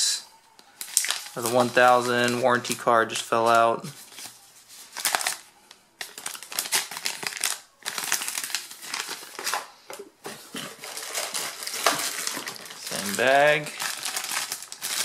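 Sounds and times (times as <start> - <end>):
paper rustling and crinkling: 0.8 - 9.7, 10.3 - 15.0.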